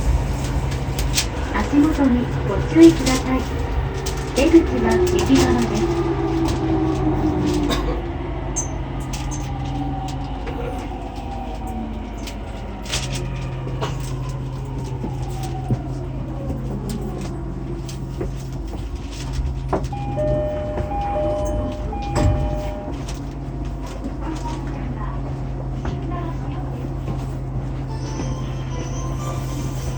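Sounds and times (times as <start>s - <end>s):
train equipment hum: 0.0s - 29.9s.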